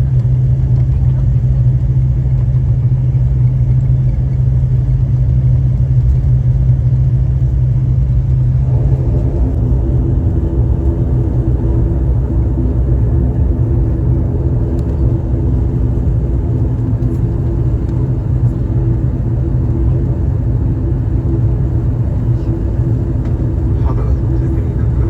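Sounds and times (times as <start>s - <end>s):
aircraft engines rumbling: 0.0s - 25.0s.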